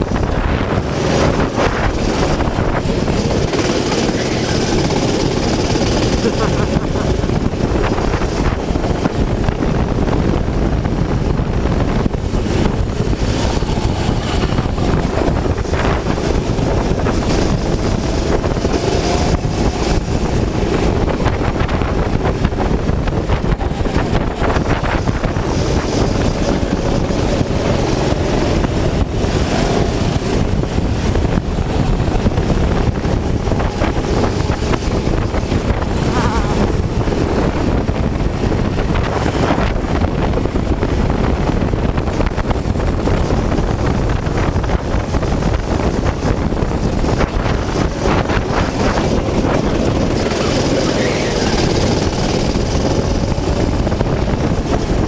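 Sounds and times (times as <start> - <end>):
go-kart engine racing: 0.0 - 55.0
wind noise on microphone: 0.0 - 55.0.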